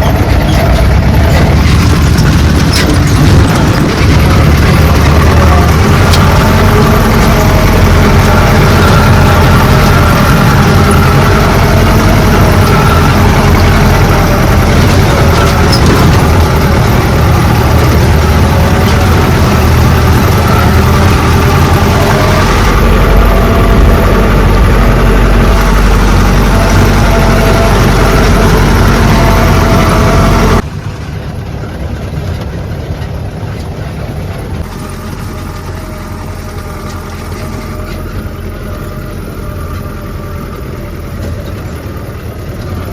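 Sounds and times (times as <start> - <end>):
low steady rumble: 0.0 - 42.9
vehicle engine and road noise: 0.0 - 42.9.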